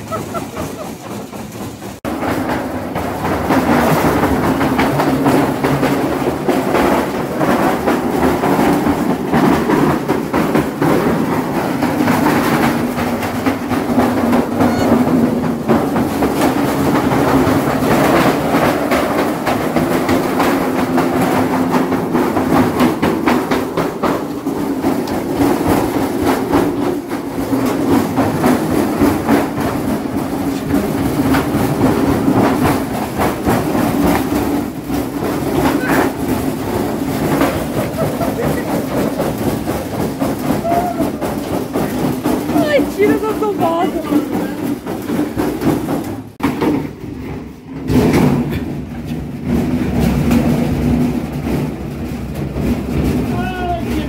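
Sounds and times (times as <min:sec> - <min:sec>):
machine rattling and knocking: 0:00.0 - 0:54.0
washing machine spinning: 0:00.0 - 0:54.0.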